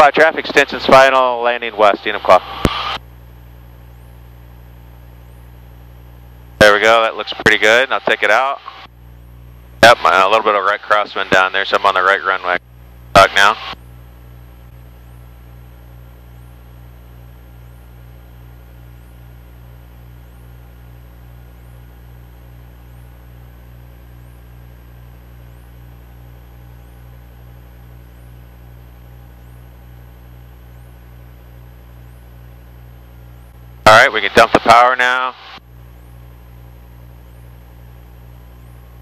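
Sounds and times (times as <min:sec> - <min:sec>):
aircraft engine drone: 0:00.0 - 0:03.1, 0:03.9 - 0:39.0
electrical hum: 0:00.0 - 0:39.0.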